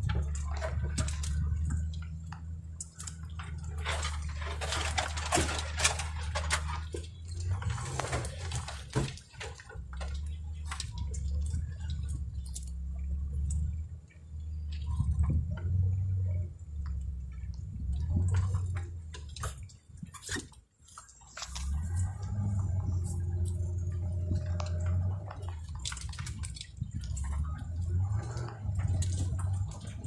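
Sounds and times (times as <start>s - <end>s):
truck engine running low: 0.0s - 20.2s, 21.5s - 30.0s.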